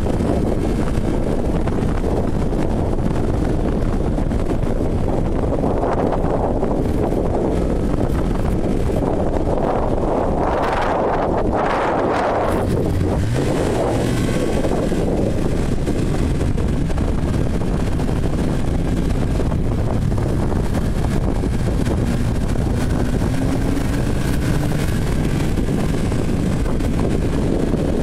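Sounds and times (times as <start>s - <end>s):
snowmobile engine running: 0.0s - 28.0s
wind rushing over microphone: 0.0s - 28.0s.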